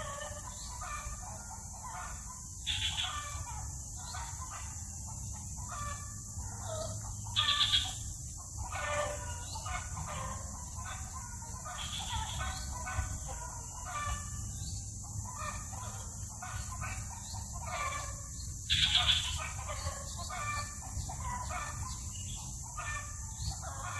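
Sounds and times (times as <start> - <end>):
birds calling: 0.0 - 23.9
steady background hum: 0.0 - 23.9.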